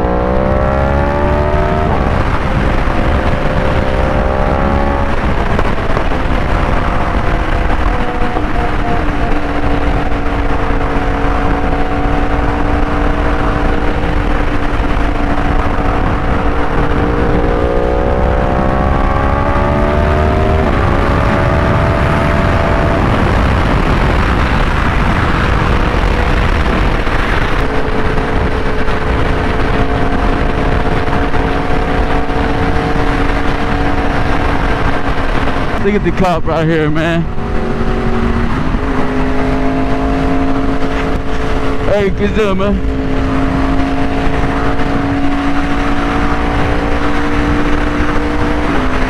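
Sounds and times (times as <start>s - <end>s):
motorcycle engine revving: 0.0s - 49.0s
wind rush: 0.0s - 49.0s.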